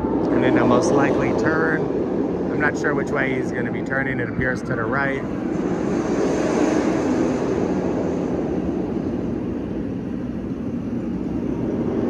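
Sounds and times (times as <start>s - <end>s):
crane engine droning: 0.0s - 12.0s.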